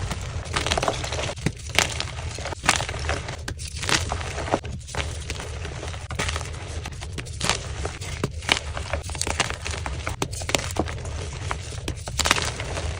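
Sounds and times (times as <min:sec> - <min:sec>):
chalk crunching and crackling: 0:00.0 - 0:12.9
steady low hum: 0:00.0 - 0:12.9.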